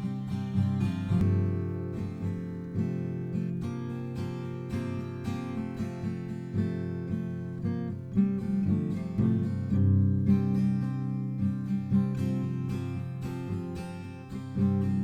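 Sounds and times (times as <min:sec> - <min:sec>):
acoustic guitar picking and strumming: 0:00.0 - 0:15.0.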